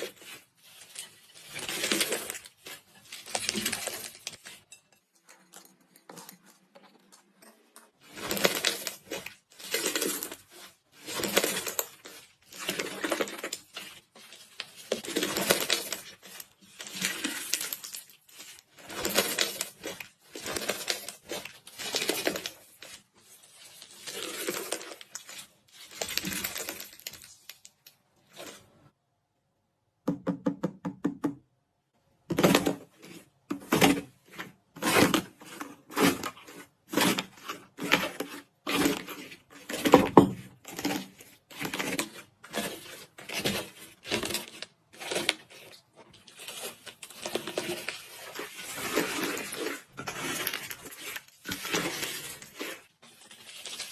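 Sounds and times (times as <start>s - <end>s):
slime crackling and crunching: 0.0s - 4.7s, 8.0s - 28.8s, 34.4s - 53.9s.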